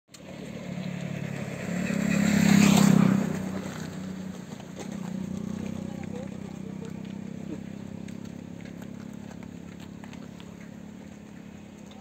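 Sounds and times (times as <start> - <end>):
vehicle engine humming: 0.1 - 12.0.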